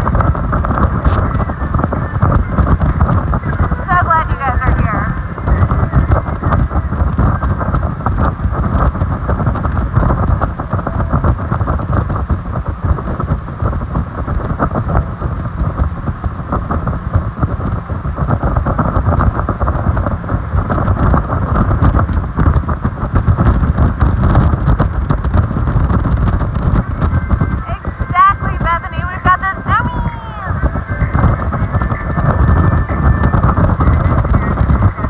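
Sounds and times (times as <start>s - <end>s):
boat engine: 0.0s - 35.0s
wind buffeting microphone: 0.0s - 35.0s.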